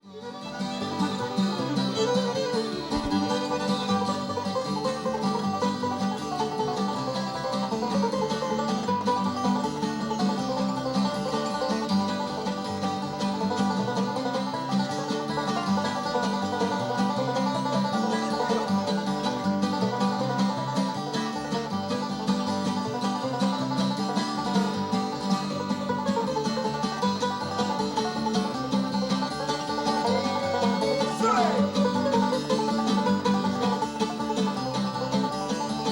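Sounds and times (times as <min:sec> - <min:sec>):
bluegrass band playing: 0:00.0 - 0:35.9
picked banjo: 0:00.0 - 0:35.9.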